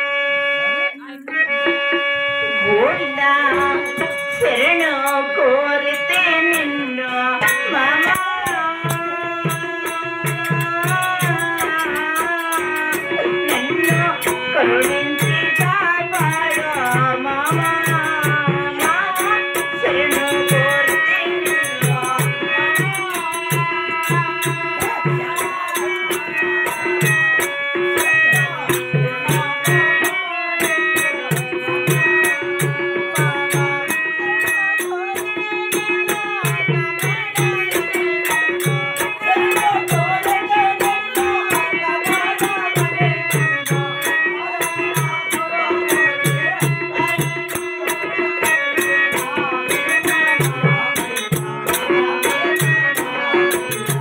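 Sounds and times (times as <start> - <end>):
drum beating steady pattern: 0.0 - 54.0
sharp clicking percussion: 3.5 - 54.0.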